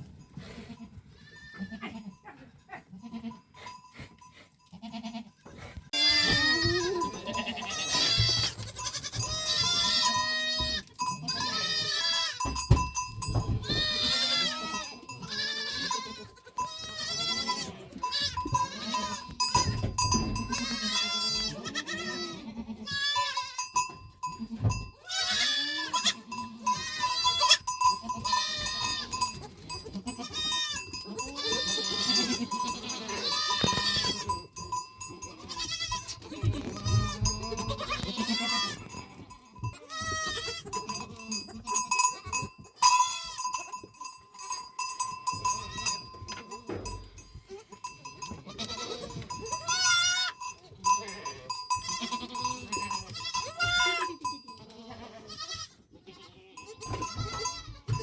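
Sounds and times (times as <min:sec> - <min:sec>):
livestock bells clinking: 0:00.0 - 0:55.6, 0:56.5 - 0:58.0
goats bleating: 0:00.5 - 0:03.5, 0:04.6 - 0:43.8, 0:45.3 - 0:58.0.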